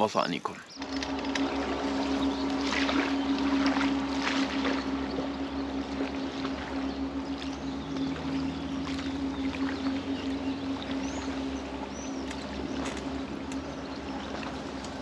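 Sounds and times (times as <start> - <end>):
steady engine hum: 0.6 - 15.0.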